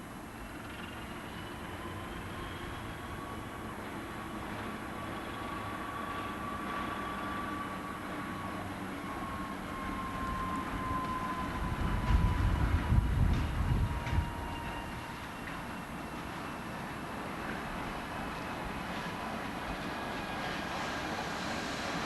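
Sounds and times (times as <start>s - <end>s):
diesel locomotive engine rumble: 0.0s - 22.0s
thin whine: 0.0s - 22.0s.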